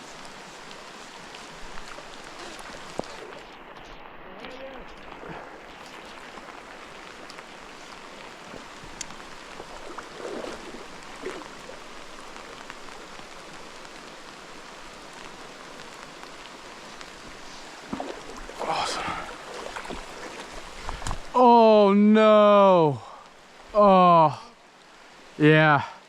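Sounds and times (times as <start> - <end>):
creek rushing: 0.0 - 26.0
steady rain falling: 0.0 - 26.0.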